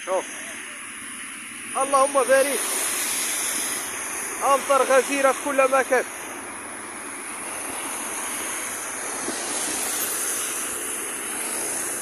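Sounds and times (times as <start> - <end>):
car tyres hissing on wet road: 0.0 - 12.0.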